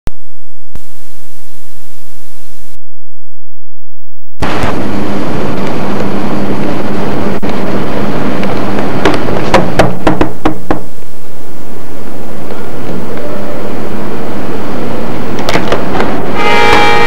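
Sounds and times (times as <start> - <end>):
low hum: 0.1 - 17.0.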